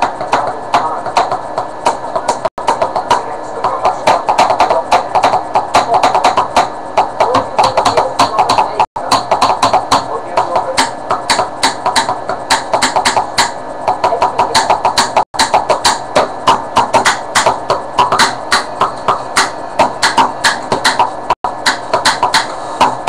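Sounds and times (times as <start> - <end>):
drumming on household objects: 0.0 - 23.0.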